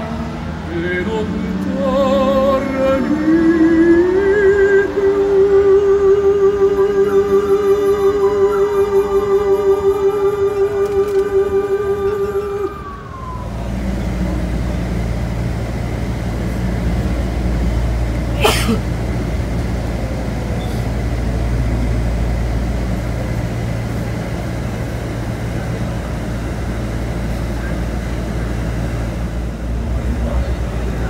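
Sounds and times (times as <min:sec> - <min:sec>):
bus engine and road rumble: 0:00.0 - 0:31.0.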